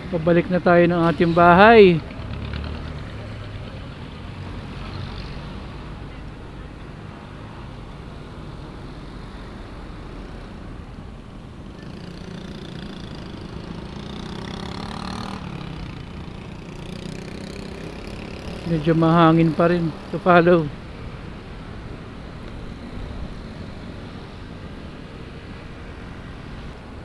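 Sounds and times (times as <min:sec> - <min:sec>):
vehicle engines running: 0:00.0 - 0:27.0.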